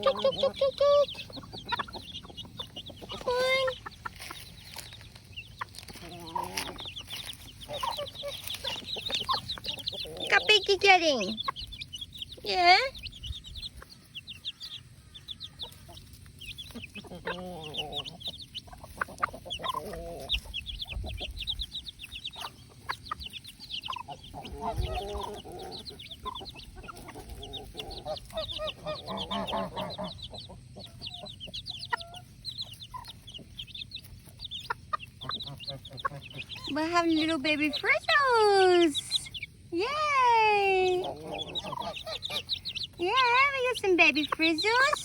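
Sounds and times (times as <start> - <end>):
chicks peeping: 0.0 - 45.0
hen clucking: 0.0 - 45.0.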